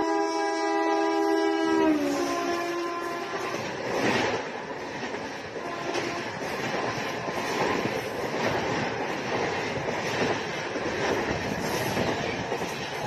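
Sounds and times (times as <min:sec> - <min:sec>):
train wheels running on rails: 0:00.0 - 0:13.0.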